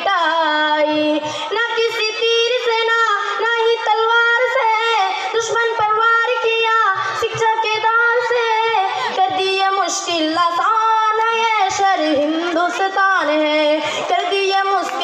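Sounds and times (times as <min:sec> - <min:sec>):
girl singing into microphone: 0:00.0 - 0:15.0.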